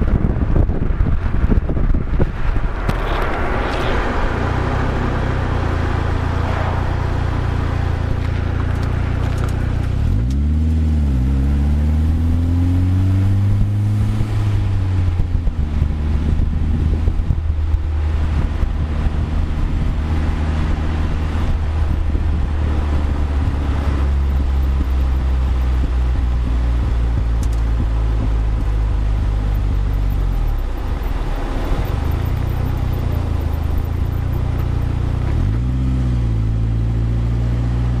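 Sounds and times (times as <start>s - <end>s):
sports car engine running: 0.0s - 38.0s.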